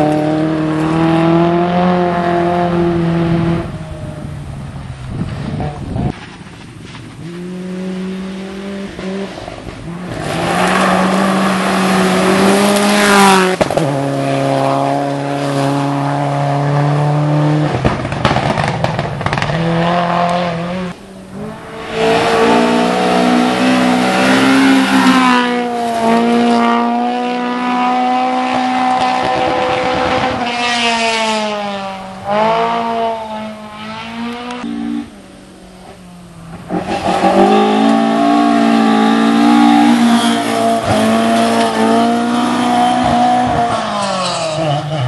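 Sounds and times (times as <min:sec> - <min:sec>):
race car engine revving: 0:00.0 - 0:04.3, 0:07.2 - 0:45.0.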